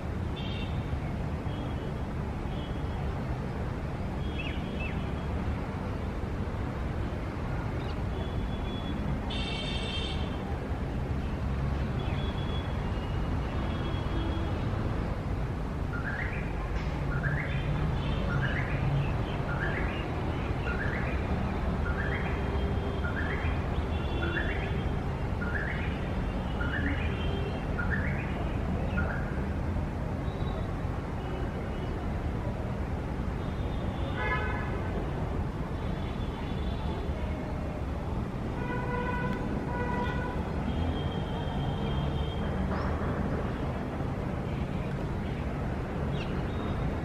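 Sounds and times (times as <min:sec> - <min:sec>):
city traffic rumble: 0:00.0 - 0:47.0.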